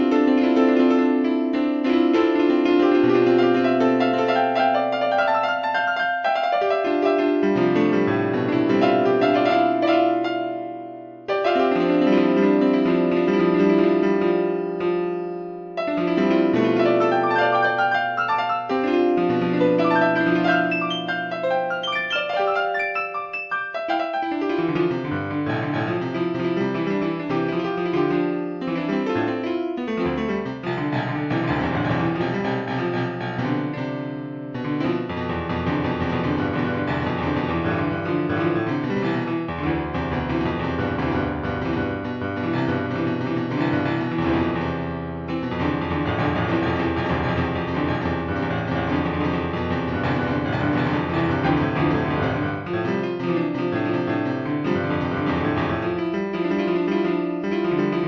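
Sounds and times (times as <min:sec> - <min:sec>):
slow piano music: 0:00.0 - 0:58.0.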